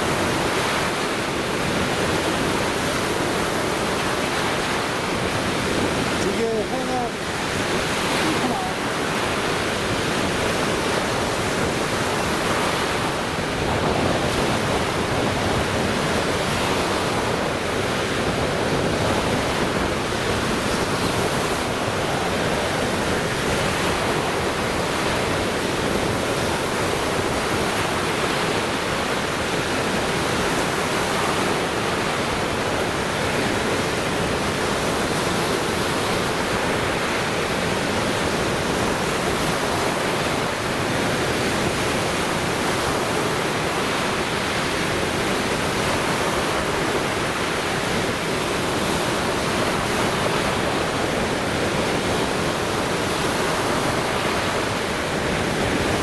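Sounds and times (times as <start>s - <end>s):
waves washing onto shore: 0.0s - 56.0s.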